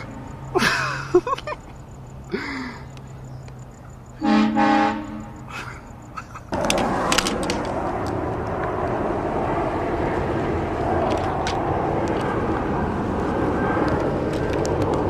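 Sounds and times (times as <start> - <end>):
moving car road and wind noise: 0.0 - 15.0.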